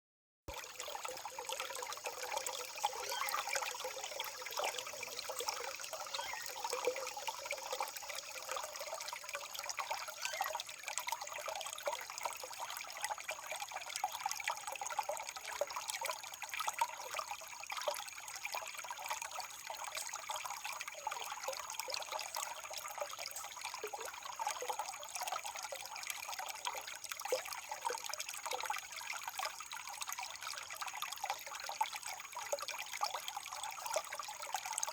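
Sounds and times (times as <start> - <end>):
water trickling: 0.5 - 34.9.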